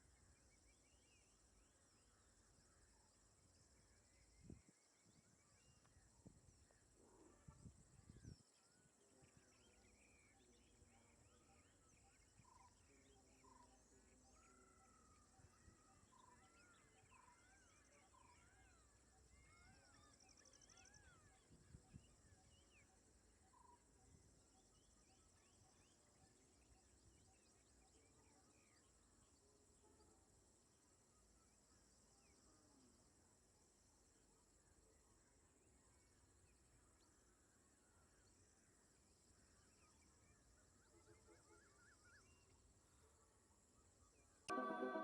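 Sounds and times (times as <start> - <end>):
small birds chirping: 0.0 - 44.5.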